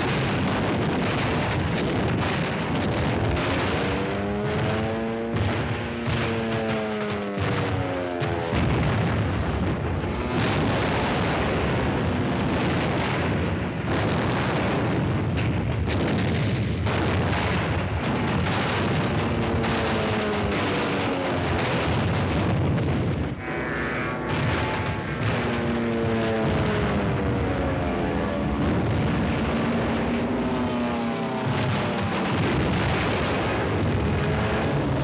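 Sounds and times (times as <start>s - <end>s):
anti-aircraft gunfire: 0.0s - 35.0s
explosions: 0.0s - 35.0s.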